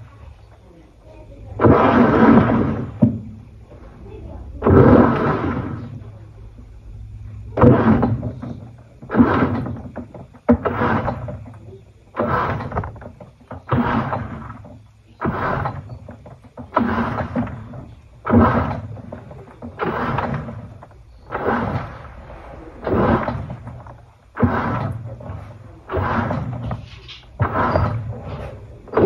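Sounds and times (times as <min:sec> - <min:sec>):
washing machine churning: 0:00.0 - 0:29.0.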